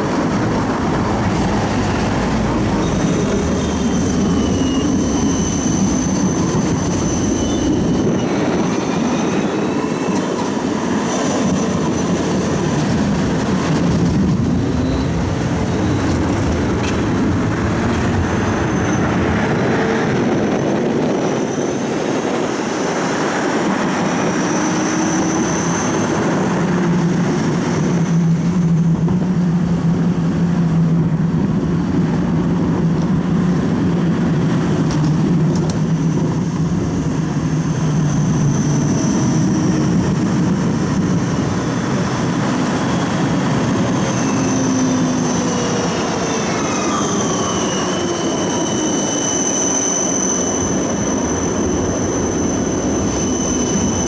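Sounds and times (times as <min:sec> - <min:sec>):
tram wheels rumbling on rails: 0:00.0 - 0:54.0.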